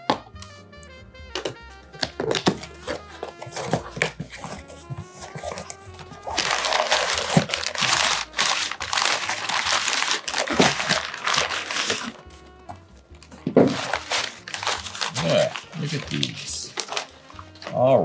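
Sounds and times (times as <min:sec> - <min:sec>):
packing paper crinkling: 0:02.2 - 0:12.4, 0:13.2 - 0:17.8.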